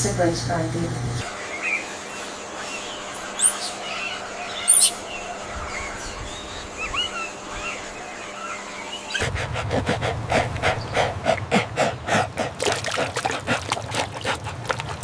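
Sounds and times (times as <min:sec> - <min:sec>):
birds chirping: 0:01.2 - 0:14.9.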